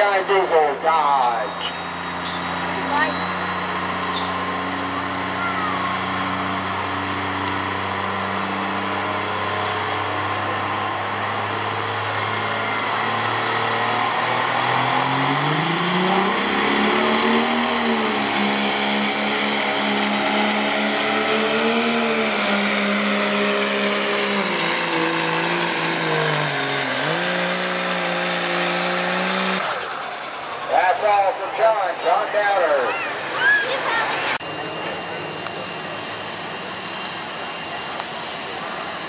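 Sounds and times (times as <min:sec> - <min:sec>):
diesel truck engine revving: 0:00.0 - 0:39.0
turbocharger whistle: 0:01.1 - 0:39.0.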